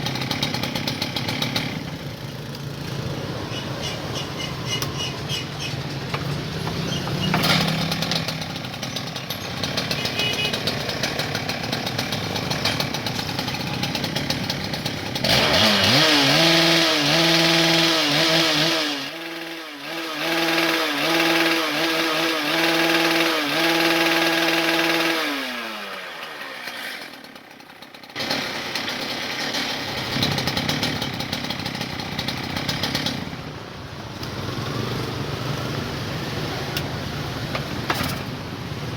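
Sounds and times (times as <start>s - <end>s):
cut-off saw engine revving: 0.0s - 27.4s, 28.0s - 33.3s.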